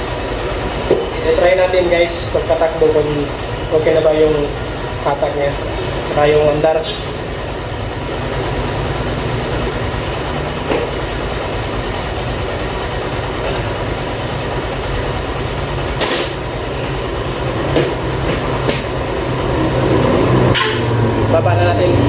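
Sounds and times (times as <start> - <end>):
scooter engine running: 0.0 - 22.0.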